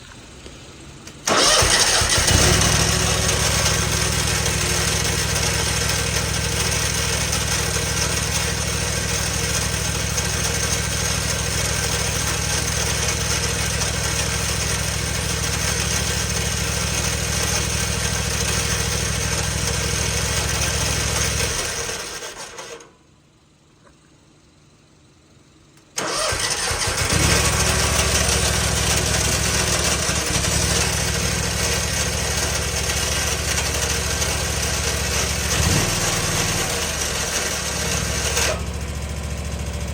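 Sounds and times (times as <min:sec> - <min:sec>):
small engine running: 0:01.3 - 0:22.8, 0:26.0 - 0:39.9.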